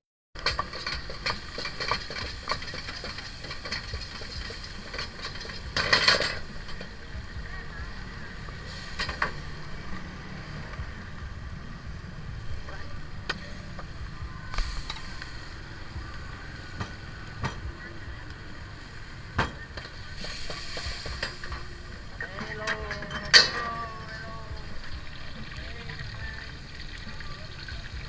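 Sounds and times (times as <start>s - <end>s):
gas burner rumble: 0.4s - 28.0s
sizzling: 0.4s - 28.0s.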